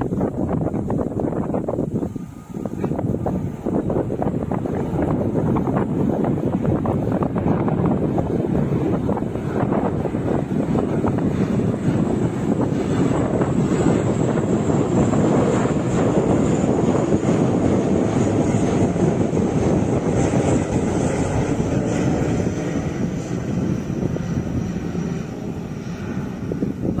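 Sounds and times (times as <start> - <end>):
turboprop engines drone: 0.0 - 27.0.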